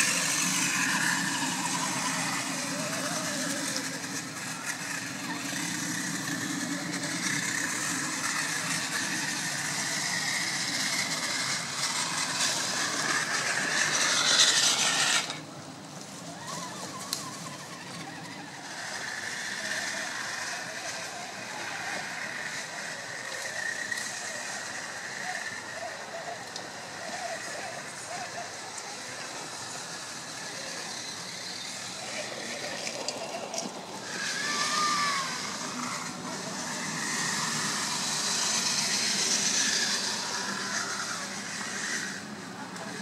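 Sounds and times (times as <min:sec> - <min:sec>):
small electric motors whining: 0:00.0 - 0:43.0.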